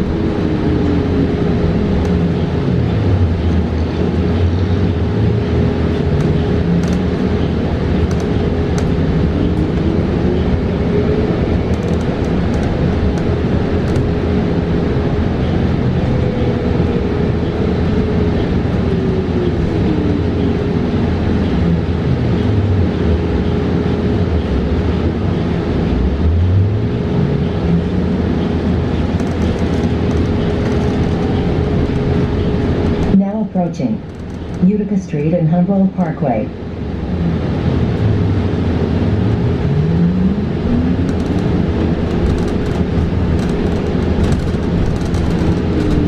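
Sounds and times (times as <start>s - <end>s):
road and tyre rumble: 0.0s - 46.0s
steady high hum: 0.0s - 46.0s.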